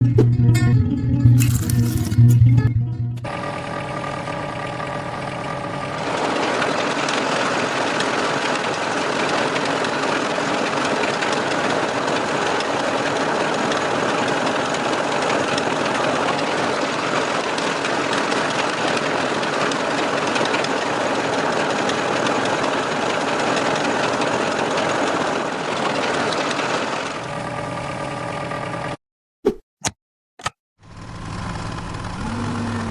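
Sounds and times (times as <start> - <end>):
small motor running: 3.2 - 29.0, 30.8 - 32.9.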